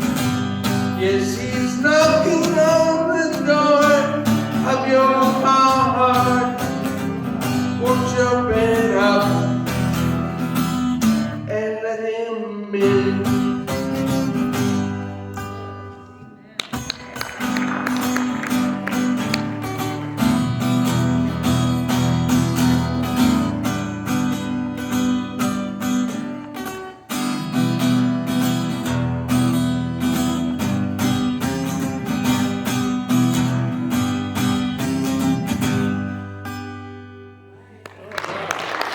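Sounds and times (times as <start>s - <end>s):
acoustic guitar strumming chords: 0.0s - 37.5s.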